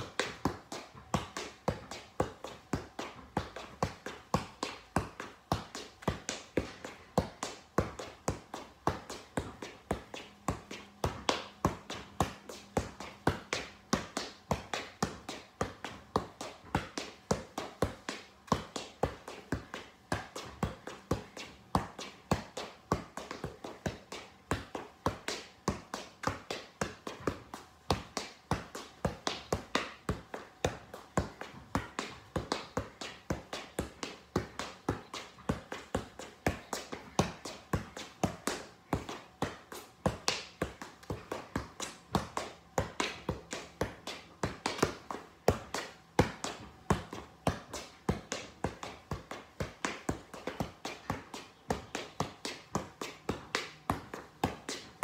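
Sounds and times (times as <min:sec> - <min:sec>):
ball tapping against shoe: 0:00.0 - 0:55.0.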